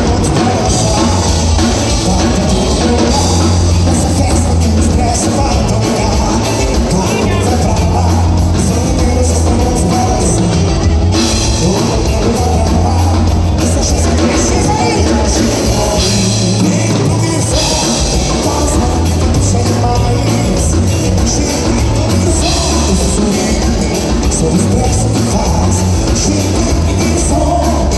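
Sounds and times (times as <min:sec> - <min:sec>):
dance band playing live: 0:00.0 - 0:27.9
drum kit beat: 0:00.0 - 0:27.9
guitar: 0:00.0 - 0:27.9
heavy bass line: 0:00.0 - 0:27.9.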